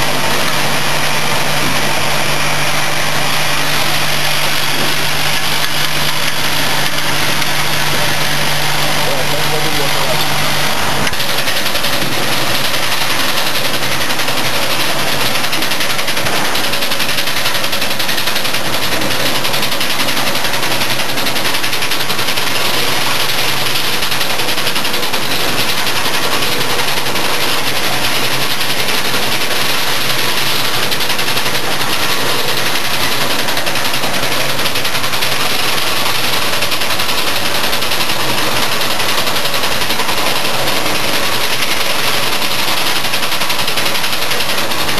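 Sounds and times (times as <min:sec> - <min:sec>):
filling machine running: 0:00.0 - 0:44.9.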